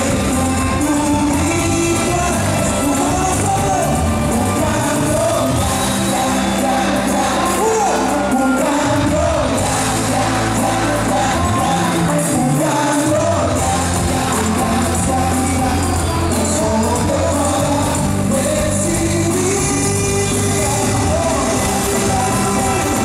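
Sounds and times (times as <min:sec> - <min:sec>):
drums: 0:00.0 - 0:23.0
electric guitar: 0:00.0 - 0:23.0
horn section: 0:00.0 - 0:23.0
keyboard: 0:00.0 - 0:23.0
man singing into microphone: 0:00.0 - 0:23.0.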